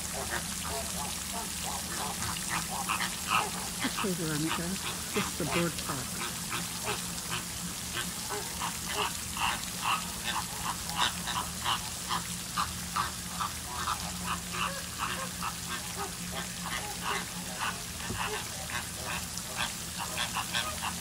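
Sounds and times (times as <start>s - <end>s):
flamingos and ducks calling: 0.0s - 21.0s
pond fountain spray hissing: 0.0s - 21.0s.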